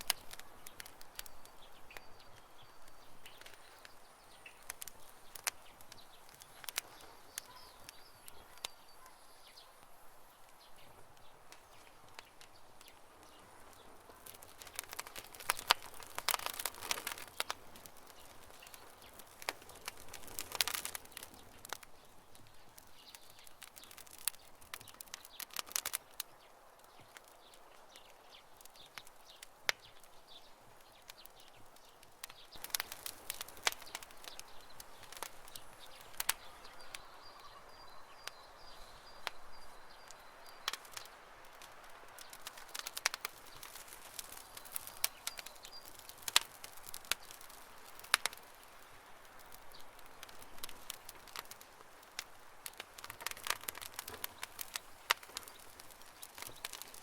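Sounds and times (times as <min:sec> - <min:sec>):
burning wood popping: 0:00.0 - 0:57.0
campfire crackling: 0:00.0 - 0:57.0.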